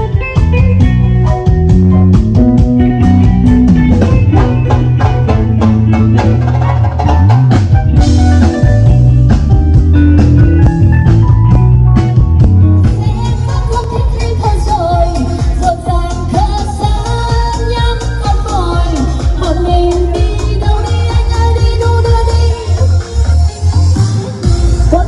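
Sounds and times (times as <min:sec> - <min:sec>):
drum kit beat: 0:00.0 - 0:25.0
electric bass notes: 0:00.0 - 0:25.0
electric guitar: 0:00.0 - 0:25.0.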